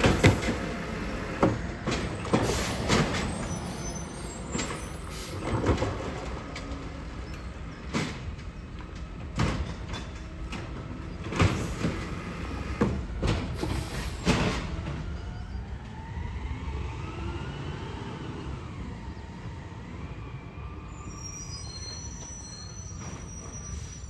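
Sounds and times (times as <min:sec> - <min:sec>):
garbage truck whine: 0:00.0 - 0:24.0.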